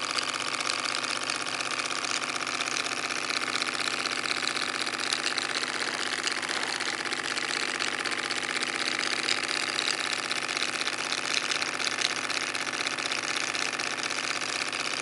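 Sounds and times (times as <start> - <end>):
model engine mechanical clatter: 0.0 - 15.0.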